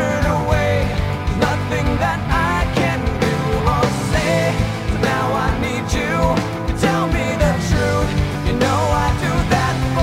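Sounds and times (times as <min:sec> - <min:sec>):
rock guitar: 0:00.0 - 0:10.0
steady drum beat: 0:00.0 - 0:10.0.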